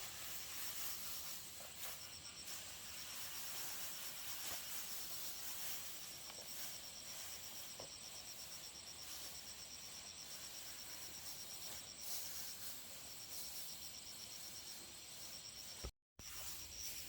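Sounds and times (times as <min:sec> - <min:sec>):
faint hiss: 0:00.0 - 0:17.0
insects trilling: 0:00.0 - 0:17.0.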